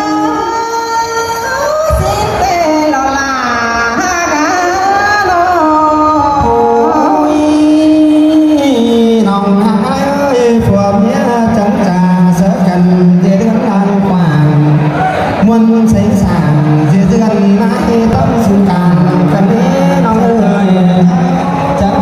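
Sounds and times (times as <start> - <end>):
woman singing over loudspeakers: 0.0 - 22.0.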